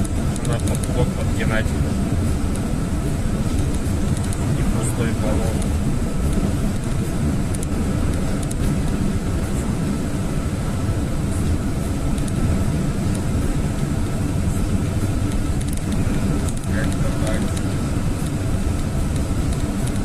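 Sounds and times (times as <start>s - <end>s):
van engine and road noise: 0.0s - 20.0s.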